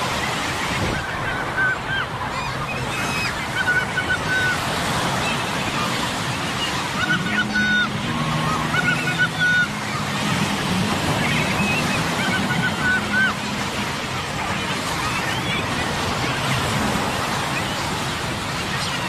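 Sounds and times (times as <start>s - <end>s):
crowd noise: 0.0s - 19.0s
surf: 0.0s - 19.0s.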